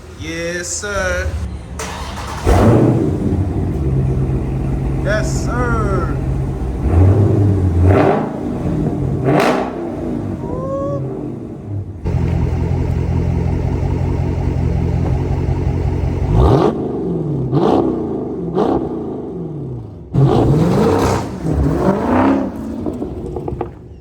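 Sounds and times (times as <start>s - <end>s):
car engine revving: 1.0s - 23.8s.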